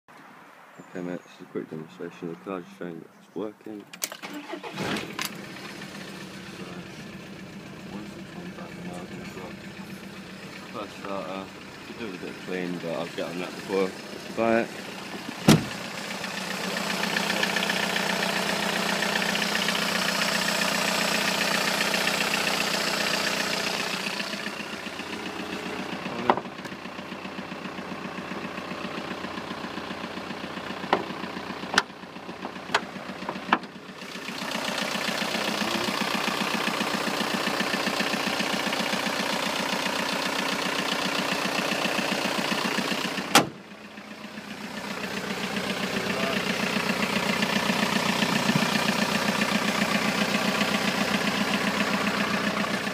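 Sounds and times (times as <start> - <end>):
car engine idling: 3.7 - 52.9.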